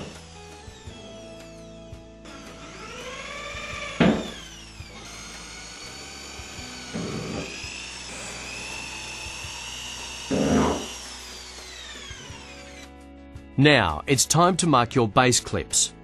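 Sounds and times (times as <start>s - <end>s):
drill whining into ceramic tile: 0.0s - 13.0s.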